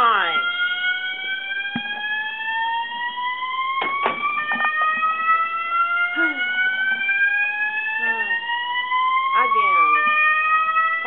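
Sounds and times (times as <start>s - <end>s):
fire alarm rising electronic tone: 0.0s - 11.0s
second alarm tone: 0.0s - 11.0s.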